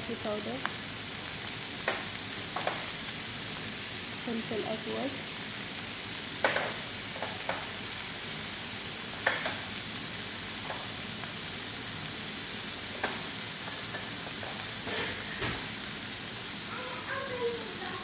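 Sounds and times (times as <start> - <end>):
meat and onions sizzling in oil: 0.0 - 18.0.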